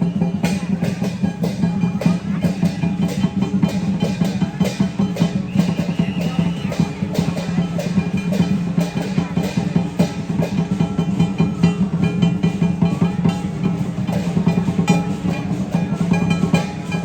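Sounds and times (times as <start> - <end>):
drum beaten in fast rhythm: 0.0 - 17.0
ringing metal percussion: 0.0 - 17.0.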